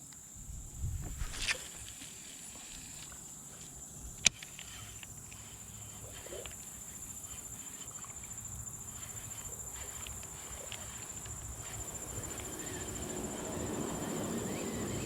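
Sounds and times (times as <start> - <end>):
faint ticks: 1.4 - 14.1
high-pitched insect drone: 1.8 - 15.0.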